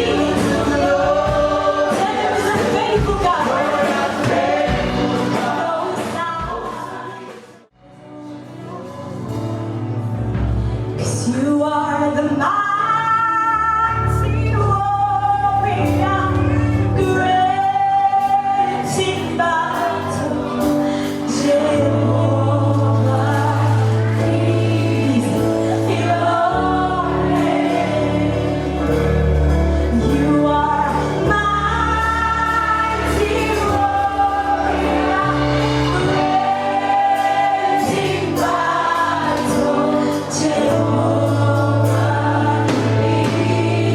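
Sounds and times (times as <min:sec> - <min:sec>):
band with bass and drums: 0:00.0 - 0:07.6, 0:08.7 - 0:11.5, 0:14.1 - 0:43.9
gospel choir singing: 0:00.0 - 0:07.7, 0:14.0 - 0:43.9.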